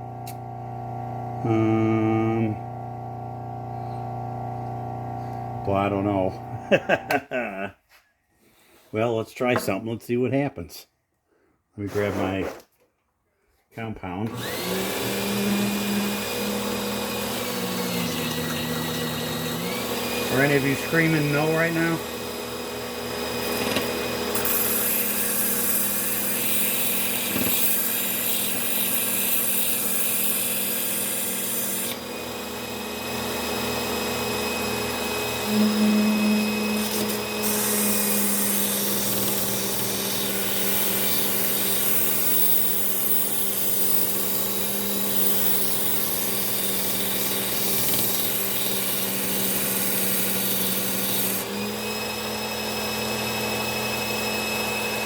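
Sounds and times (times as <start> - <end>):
bench grinder motor hum: 0.0 - 6.9, 14.3 - 55.0.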